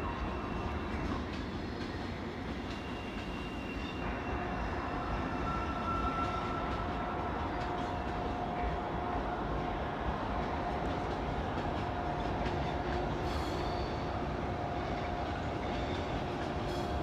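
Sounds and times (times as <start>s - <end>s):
train rumbling on tracks: 0.0s - 17.0s.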